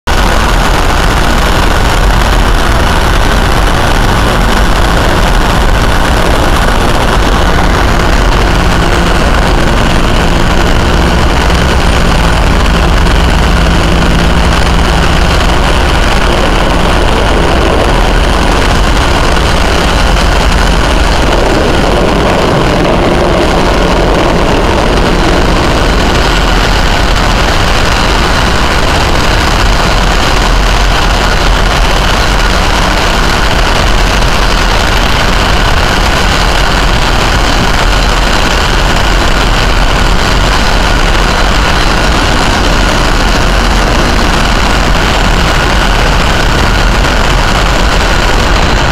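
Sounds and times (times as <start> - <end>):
helicopter turbine and rotor noise: 0.1 - 48.9.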